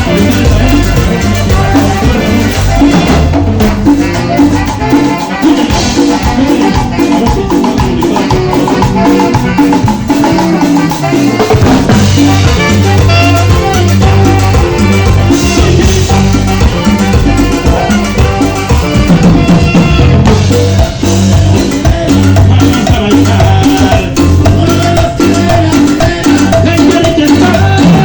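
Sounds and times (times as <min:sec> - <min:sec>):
live latin dance band playing: 0:00.0 - 0:28.0.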